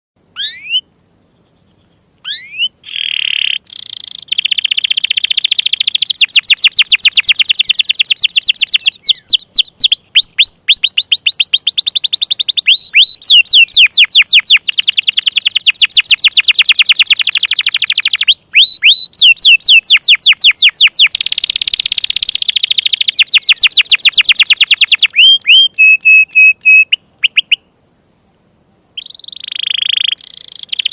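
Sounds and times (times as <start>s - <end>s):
canary singing trills: 0.3s - 27.7s, 29.0s - 30.9s.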